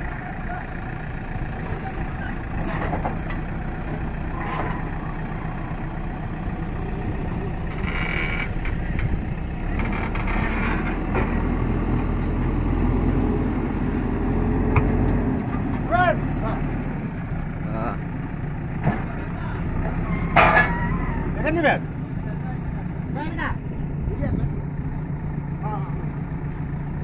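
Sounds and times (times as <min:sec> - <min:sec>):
backhoe diesel engine under load: 0:00.0 - 0:27.0.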